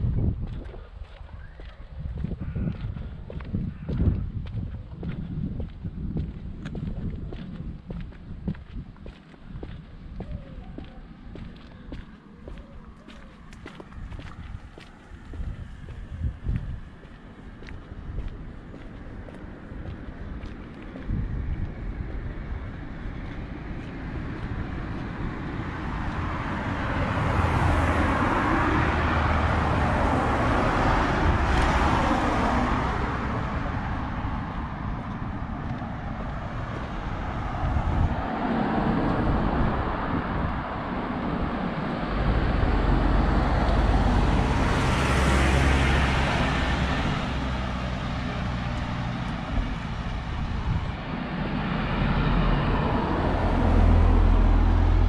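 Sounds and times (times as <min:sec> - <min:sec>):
cars passing: 0:00.0 - 0:55.0
low traffic rumble: 0:00.0 - 0:55.0.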